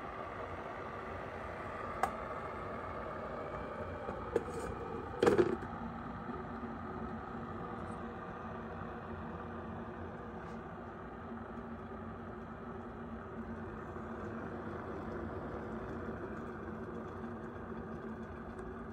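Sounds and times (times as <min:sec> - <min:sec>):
egg cooker water boiling: 0:00.0 - 0:18.9.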